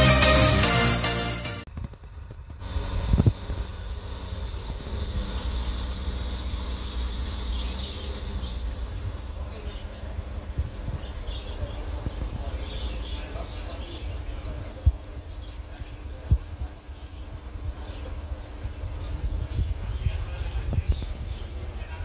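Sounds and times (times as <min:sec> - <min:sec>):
car engine idling: 0:02.0 - 0:20.4.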